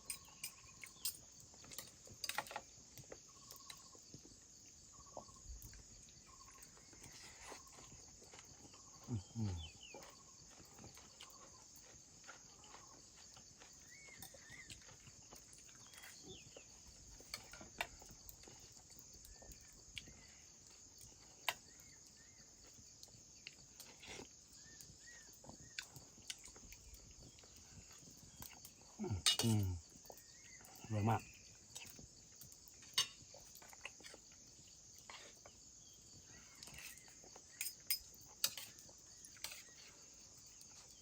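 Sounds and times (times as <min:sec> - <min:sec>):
faint bird chirps: 0:00.0 - 0:41.0
insect chorus: 0:00.0 - 0:41.0.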